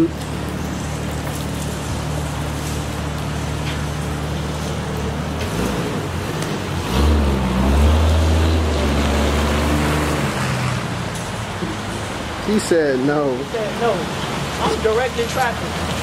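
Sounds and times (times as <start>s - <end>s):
car engines running: 0.0s - 16.0s
tyres hissing on wet pavement: 0.0s - 16.0s
car passing close: 0.7s - 16.0s.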